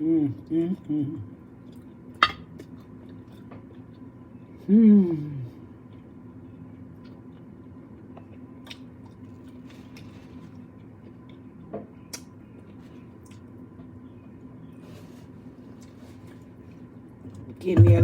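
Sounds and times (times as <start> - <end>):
steady low hum: 0.0 - 18.0
soft chewing: 0.2 - 17.6.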